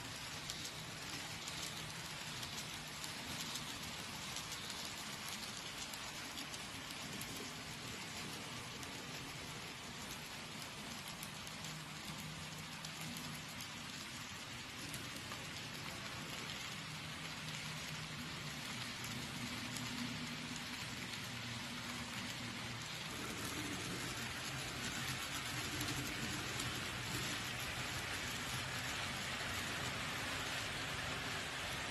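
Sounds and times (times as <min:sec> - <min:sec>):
model train wheels on rails: 0:00.0 - 0:31.9.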